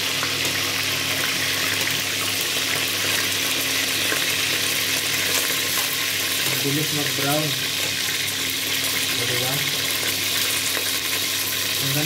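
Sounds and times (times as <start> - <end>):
pork deep-frying in hot oil: 0.0 - 12.0.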